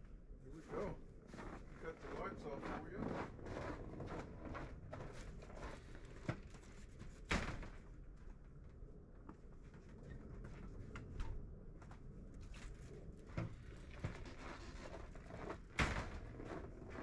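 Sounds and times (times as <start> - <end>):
small clicks and rustles: 3.1 - 17.0.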